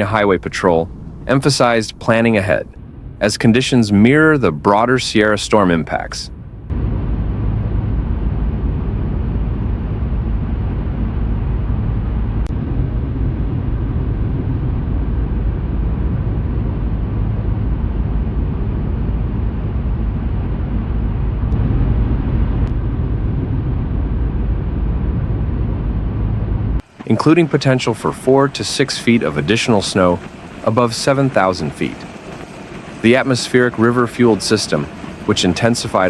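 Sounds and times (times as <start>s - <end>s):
vehicle rumble with road noise: 0.0s - 36.0s.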